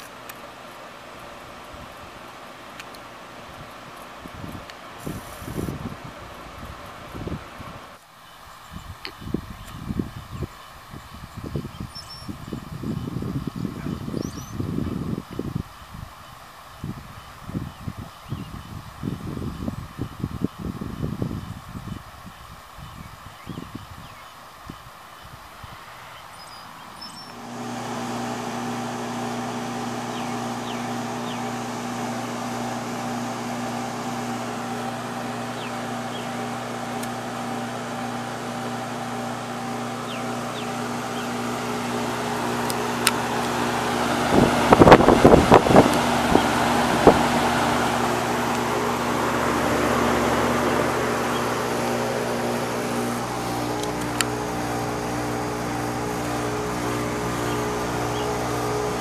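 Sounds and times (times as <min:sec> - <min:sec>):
compressor hum: 0:00.0 - 0:59.0
fan rushing: 0:00.0 - 0:59.0.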